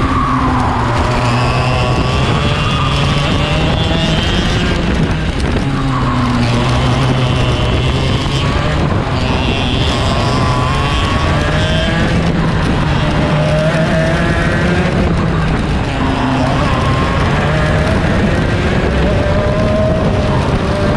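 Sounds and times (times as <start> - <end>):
steady rush of noise: 0.0 - 20.9
two-stroke kart engines racing: 0.0 - 20.9.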